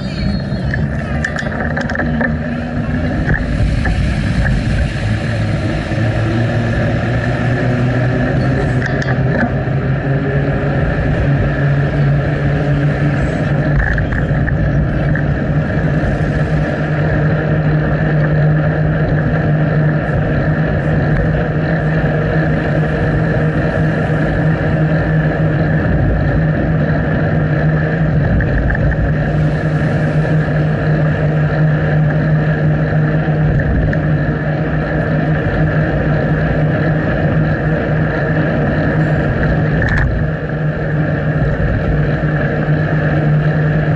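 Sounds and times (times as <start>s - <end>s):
constant low hum: 0.0s - 43.9s
rushing wind noise: 0.0s - 43.9s.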